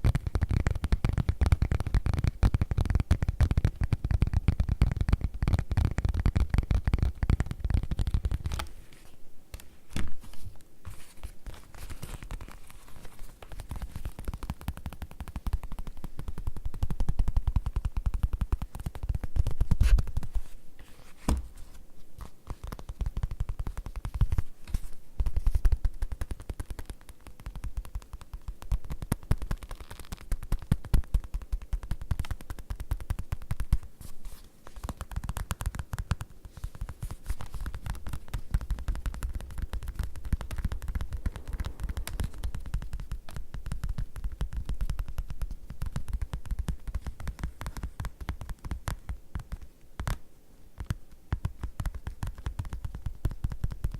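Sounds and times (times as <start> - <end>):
fast tapping on leather: 0.0 - 8.7, 11.2 - 20.5, 22.2 - 50.2, 50.8 - 53.9.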